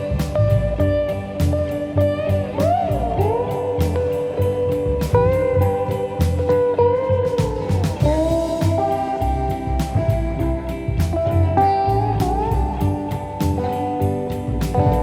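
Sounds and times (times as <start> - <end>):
slide guitar: 0.0 - 15.0
steady drum beat: 0.0 - 15.0.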